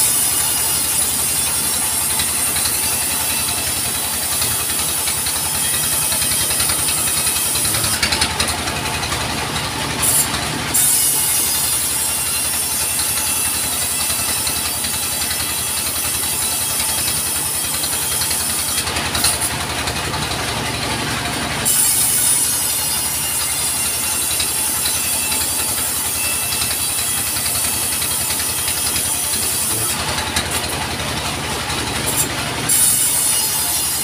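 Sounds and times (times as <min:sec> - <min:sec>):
engine idling with even chugging: 0:00.0 - 0:34.0.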